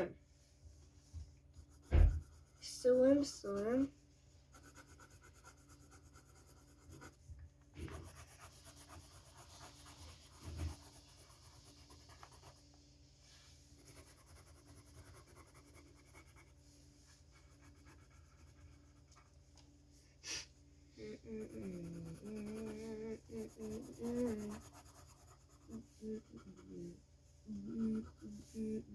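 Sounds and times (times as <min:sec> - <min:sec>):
crayon scratching on paper: 0:01.5 - 0:03.9, 0:04.5 - 0:12.7, 0:13.8 - 0:19.5, 0:21.0 - 0:28.9.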